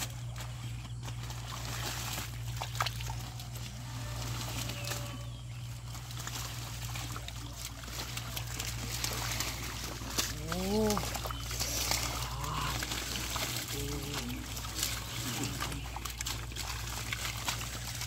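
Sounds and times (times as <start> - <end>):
small splashes and clicks: 0.0 - 18.0
steady low hum: 0.0 - 18.0
water trickling and sloshing: 0.0 - 18.0.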